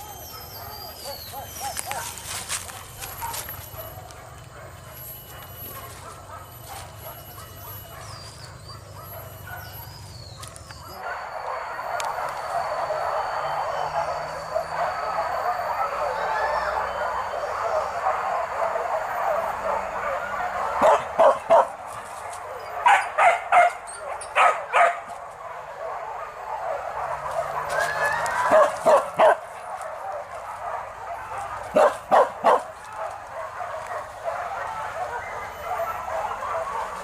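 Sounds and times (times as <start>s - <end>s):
chorus of dogs yelping: 0.0s - 37.0s
dogs barking sharply: 0.0s - 37.0s.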